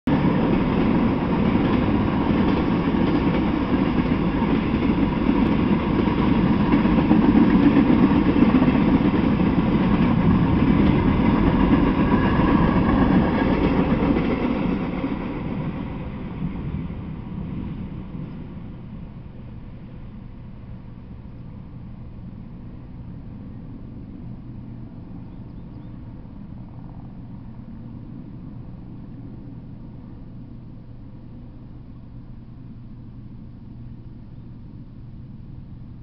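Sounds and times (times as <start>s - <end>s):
freight train wheels rumbling on rails: 0.1s - 36.0s.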